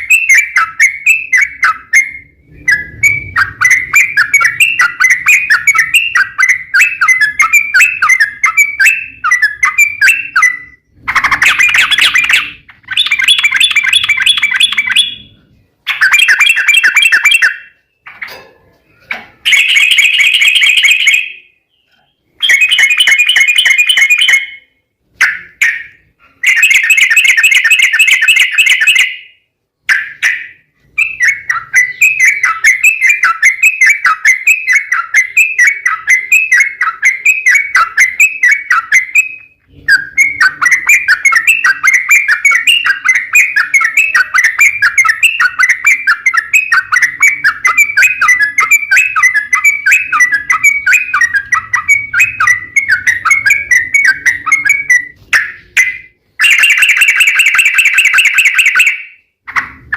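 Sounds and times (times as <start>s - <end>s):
bird chattering song: 0.0s - 18.4s, 19.0s - 59.9s.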